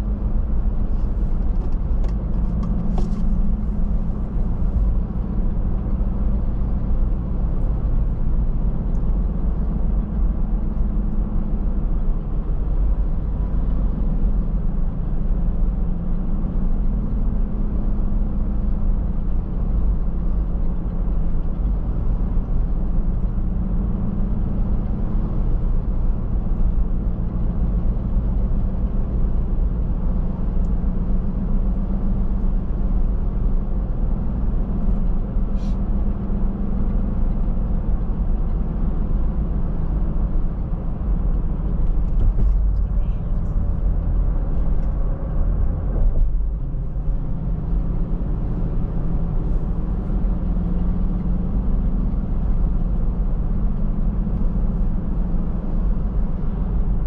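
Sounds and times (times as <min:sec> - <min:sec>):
car engine drone: 0:00.0 - 0:57.0.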